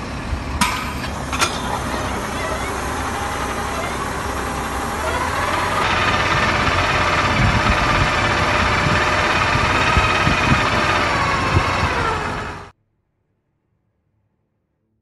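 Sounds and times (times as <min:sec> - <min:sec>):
low rumble: 0:00.0 - 0:12.8
machinery whine: 0:00.0 - 0:12.8.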